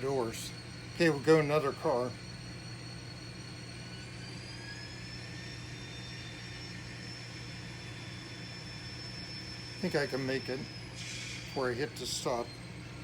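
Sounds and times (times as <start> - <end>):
model train motor whine: 0.0 - 13.0
steady low hum: 0.0 - 13.0.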